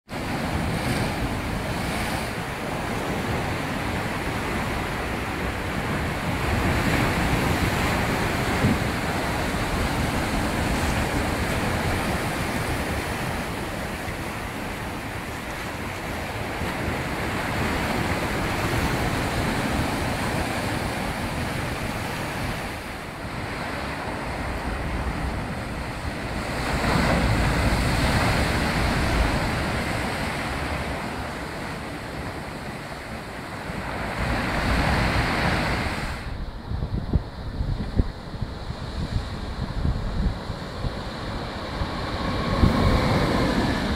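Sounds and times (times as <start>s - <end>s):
surf crashing against rocks: 0.1s - 43.9s.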